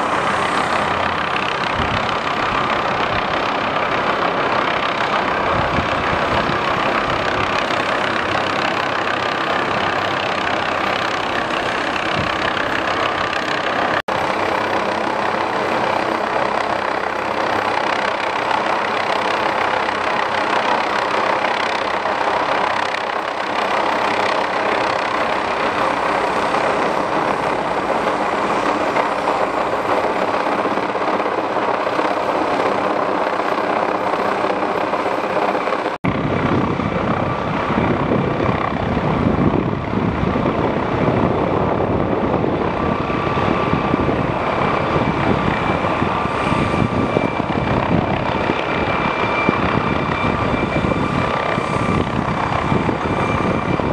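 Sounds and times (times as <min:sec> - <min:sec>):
helicopter rotor rumble: 0:00.0 - 0:53.9
high turbine whine: 0:00.0 - 0:53.9.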